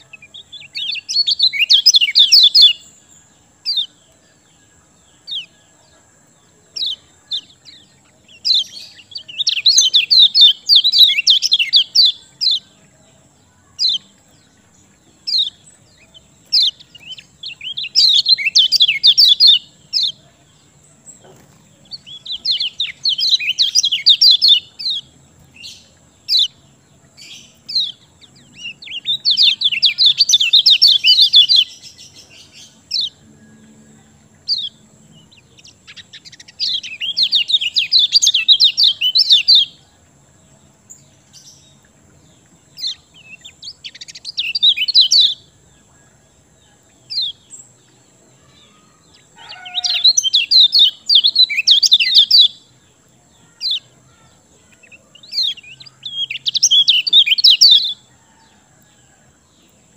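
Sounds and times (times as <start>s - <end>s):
sharp bird chirps: 0.0s - 6.0s, 6.6s - 33.4s, 34.3s - 40.0s, 40.8s - 58.3s
songbird twittering: 0.0s - 59.8s.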